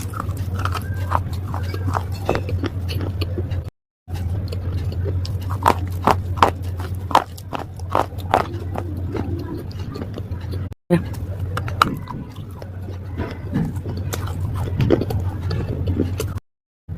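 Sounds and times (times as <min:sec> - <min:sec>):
slate crunching and cracking: 0:00.0 - 0:16.4.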